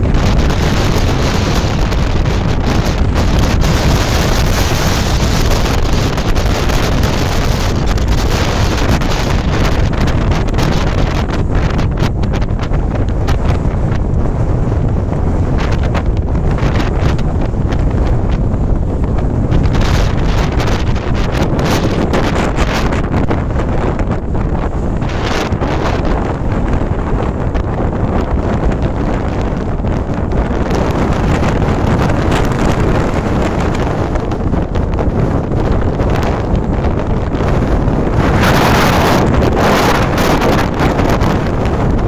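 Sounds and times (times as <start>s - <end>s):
strong wind buffeting microphone: 0.0s - 42.0s.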